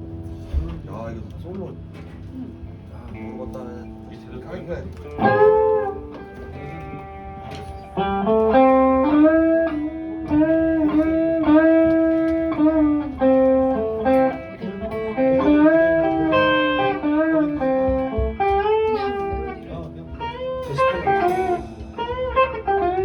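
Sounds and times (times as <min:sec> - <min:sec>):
electric guitar blues lead: 0:00.0 - 0:23.0.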